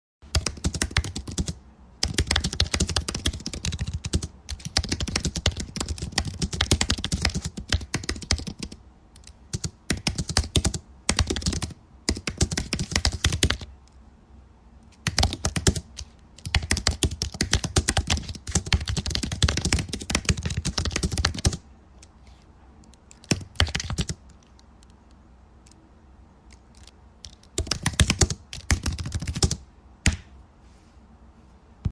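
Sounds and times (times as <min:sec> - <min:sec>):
computer keyboard typing: 0:00.3 - 0:13.7, 0:15.0 - 0:22.1, 0:22.8 - 0:25.0, 0:26.5 - 0:30.2.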